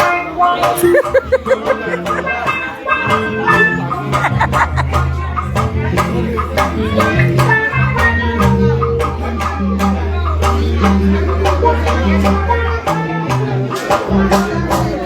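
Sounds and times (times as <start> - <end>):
guitar: 0.0 - 15.0
percussion beat: 0.6 - 15.0.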